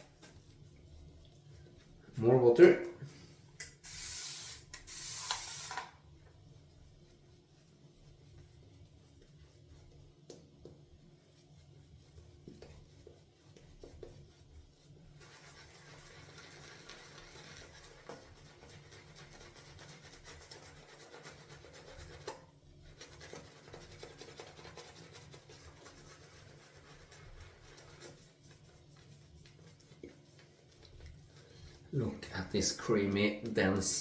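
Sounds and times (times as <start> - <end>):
shaving brush lathering soap: 0.0 - 34.0.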